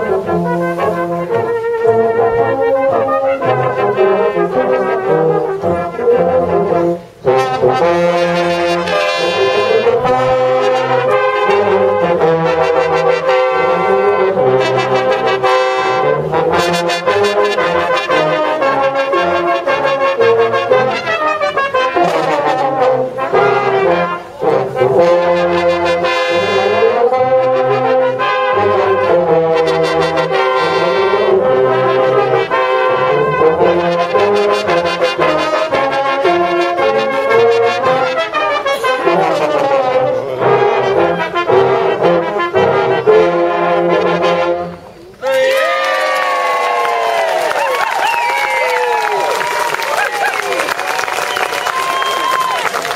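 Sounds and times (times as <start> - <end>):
brass band playing: 0.0 - 45.3, 46.2 - 52.9.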